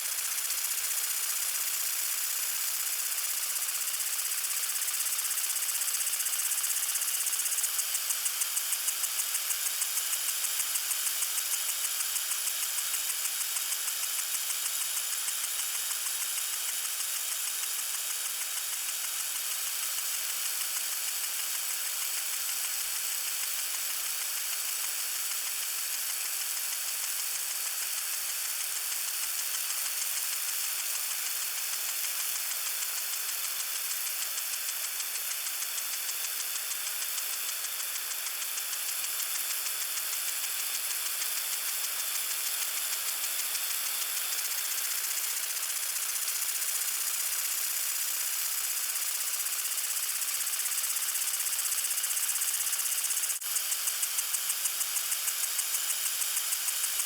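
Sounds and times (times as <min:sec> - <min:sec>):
lawn sprinkler spraying water: 0:00.0 - 0:57.0.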